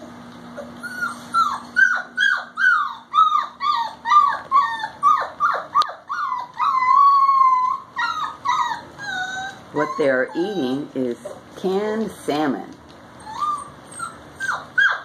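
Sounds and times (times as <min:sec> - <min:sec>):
puppy whining: 0:00.0 - 0:11.5, 0:13.1 - 0:15.0.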